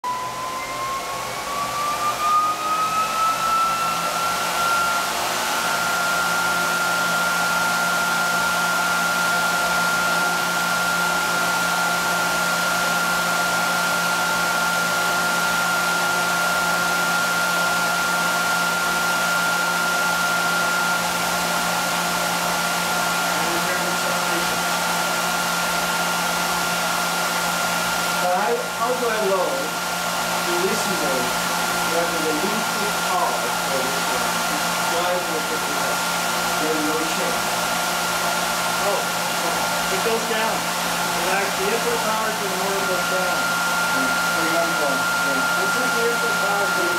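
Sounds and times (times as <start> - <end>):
generator rig whine: 0.0 - 46.9.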